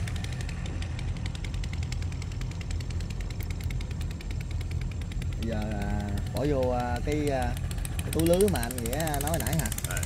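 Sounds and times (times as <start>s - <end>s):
rapid even ticking: 0.0s - 10.0s
small engine running: 0.0s - 10.0s.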